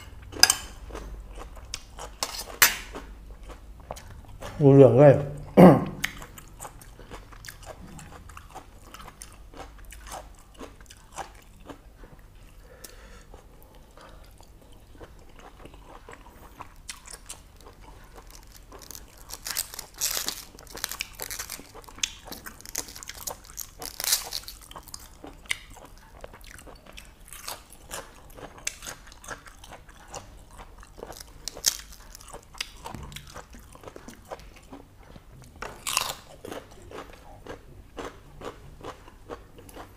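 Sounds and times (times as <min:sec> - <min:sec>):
person chewing wetly: 0:05.4 - 0:39.9.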